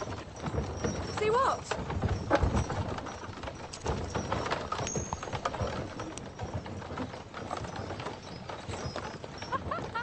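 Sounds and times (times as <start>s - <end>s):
horse hooves on dirt: 0.0s - 10.0s.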